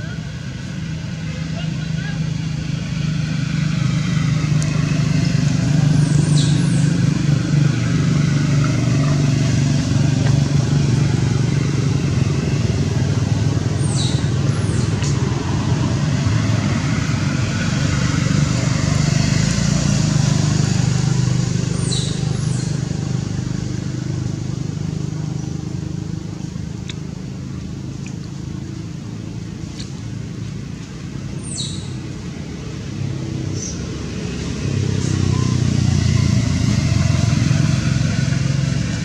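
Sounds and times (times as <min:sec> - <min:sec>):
low engine hum: 0:00.0 - 0:39.0.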